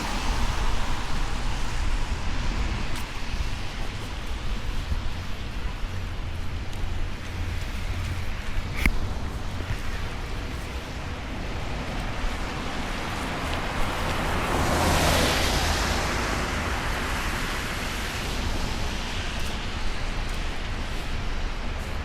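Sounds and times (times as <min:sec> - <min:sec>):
tyres hissing on wet road: 0:00.0 - 0:22.0.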